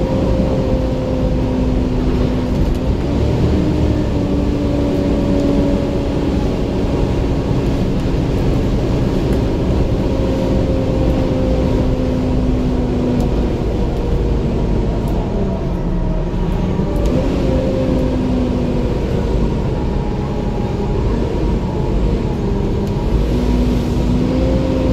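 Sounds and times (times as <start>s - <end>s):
bus diesel engine running: 0.0s - 24.9s.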